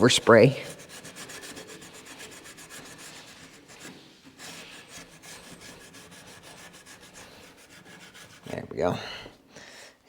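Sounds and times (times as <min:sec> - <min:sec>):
abrasive pad scrubbing metal: 0:00.0 - 0:08.8.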